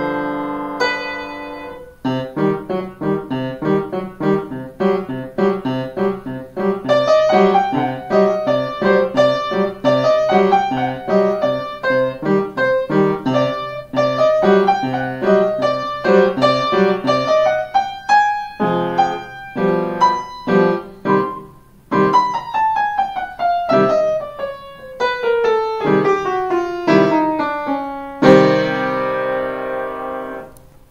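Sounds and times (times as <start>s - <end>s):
upright piano playing: 0.0s - 30.9s.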